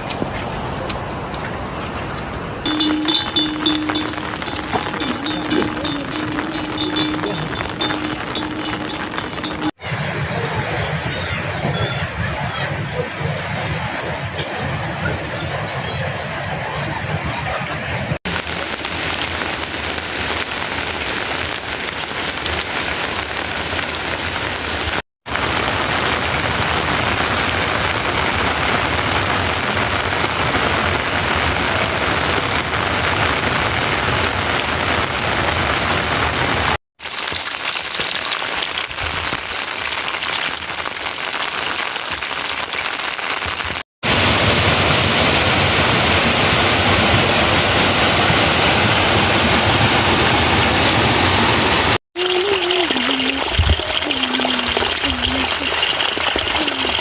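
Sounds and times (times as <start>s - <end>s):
heavy rain falling: 2.6s - 57.0s.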